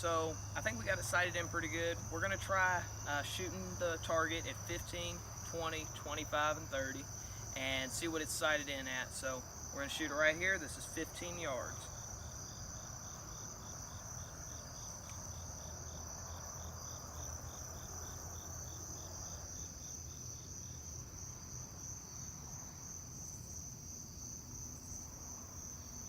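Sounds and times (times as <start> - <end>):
insect chirping: 0.0 - 26.0
insect high-pitched trill: 0.0 - 26.0.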